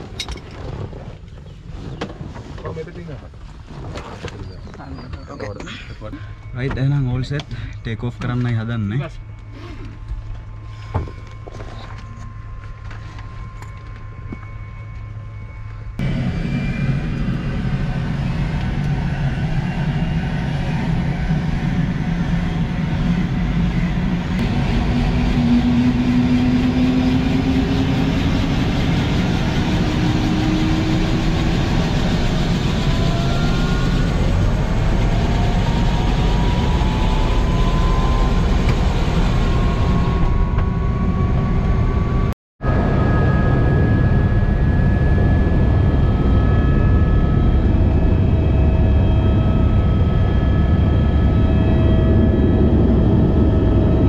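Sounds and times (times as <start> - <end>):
helicopter engine and rotor: 4.6 - 54.0
turbine whine rising in pitch: 6.1 - 54.0.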